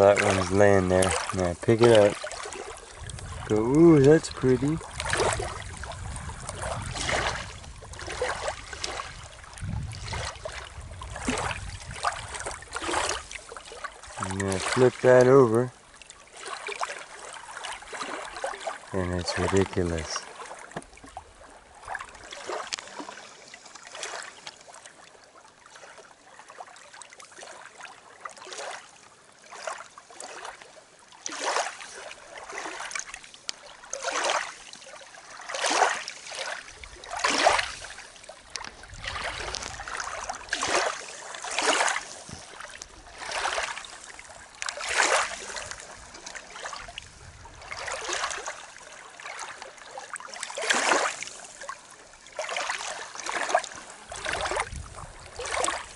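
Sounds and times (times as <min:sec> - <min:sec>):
small waves lapping on gravel: 0:00.0 - 0:55.9.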